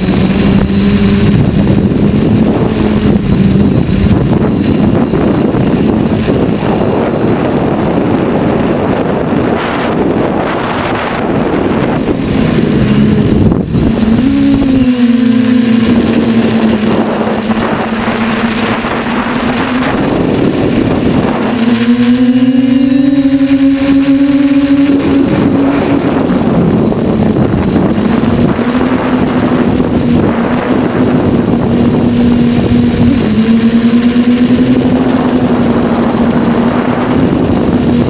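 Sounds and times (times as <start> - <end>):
drone propeller hum: 0.0 - 38.0
wind rush over microphone: 0.0 - 38.0.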